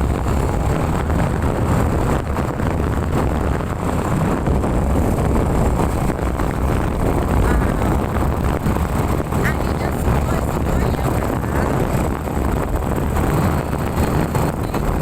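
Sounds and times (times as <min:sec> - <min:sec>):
motorcycle engine and road noise: 0:00.0 - 0:15.0
wind buffeting microphone: 0:00.0 - 0:15.0.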